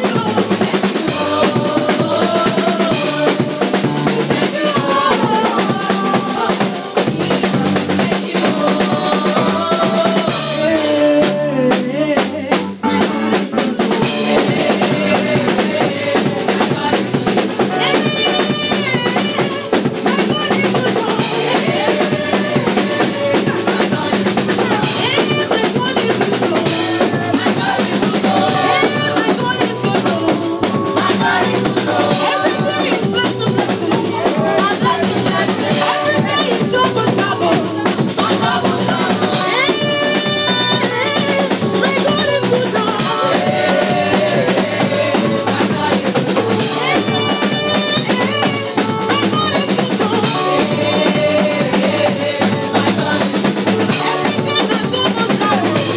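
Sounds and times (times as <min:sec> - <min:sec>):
music with drum kit beat: 0:00.0 - 0:55.9.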